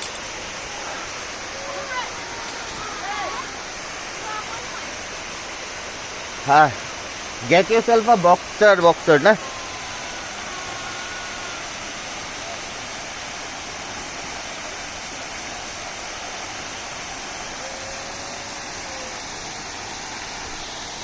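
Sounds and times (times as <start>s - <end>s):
waterfall pouring into pool: 0.0s - 21.0s.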